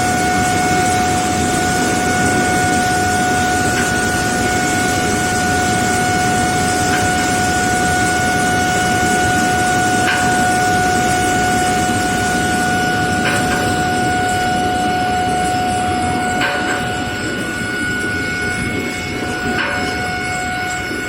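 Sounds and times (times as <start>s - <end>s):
high-pitched furnace whine: 0.0s - 21.0s.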